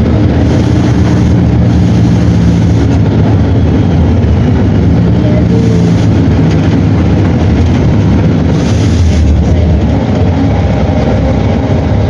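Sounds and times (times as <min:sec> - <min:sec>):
diesel bus engine rumbling: 0:00.0 - 0:12.0.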